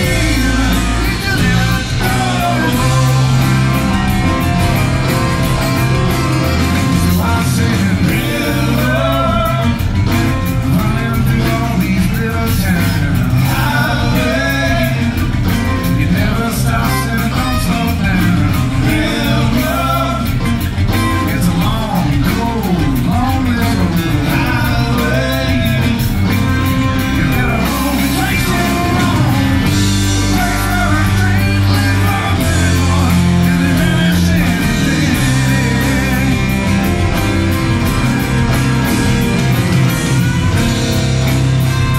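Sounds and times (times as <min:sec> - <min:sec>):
live band playing rock song: 0:00.0 - 0:41.9.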